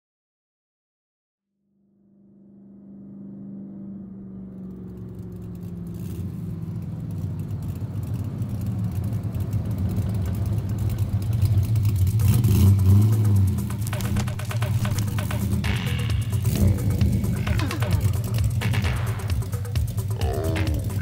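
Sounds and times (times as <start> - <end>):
car engine humming: 2.7 - 21.0.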